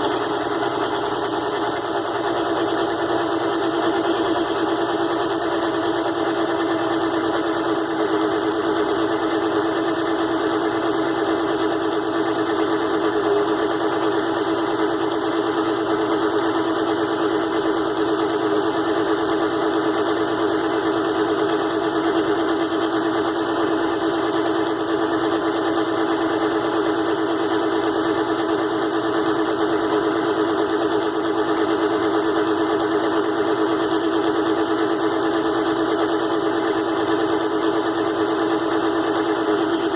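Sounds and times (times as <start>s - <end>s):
mini lathe motor humming: 0.0s - 39.9s.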